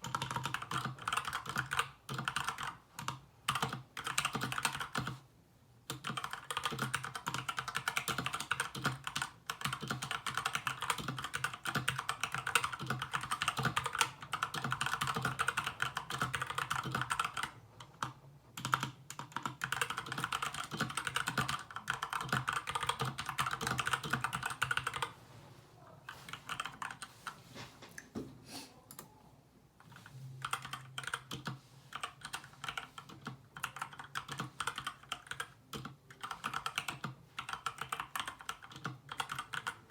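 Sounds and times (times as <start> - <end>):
typing on mechanical keyboard: 0.0 - 5.2, 5.8 - 25.1, 26.1 - 27.1, 29.8 - 39.9.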